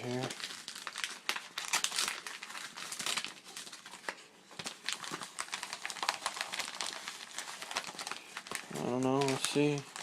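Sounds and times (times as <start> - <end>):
package being torn open: 0.0 - 10.0.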